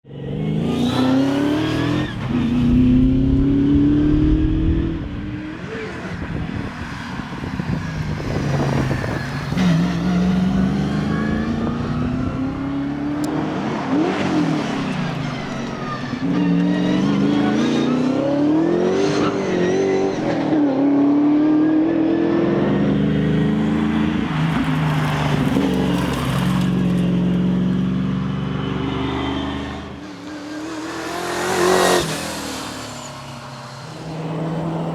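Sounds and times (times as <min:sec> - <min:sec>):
rally car engine revving: 0:00.1 - 0:34.9.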